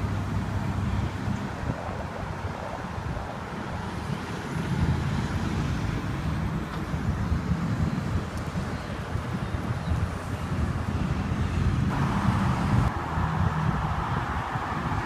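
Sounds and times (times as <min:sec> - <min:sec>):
road traffic rumble: 0:00.0 - 0:15.0
wind buffeting microphone: 0:00.0 - 0:15.0.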